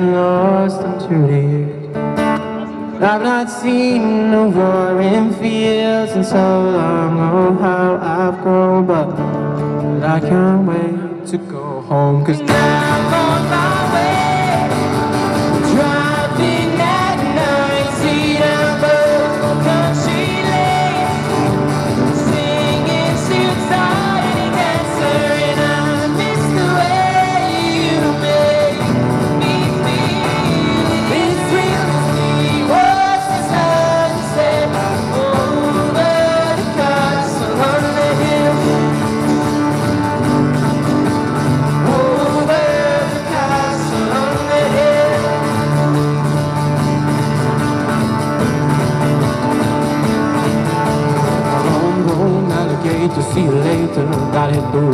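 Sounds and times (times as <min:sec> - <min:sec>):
man singing into a microphone: 0:00.0 - 0:40.2, 0:41.3 - 0:46.6, 0:51.4 - 0:54.9
acoustic guitars strummed: 0:00.0 - 0:54.9.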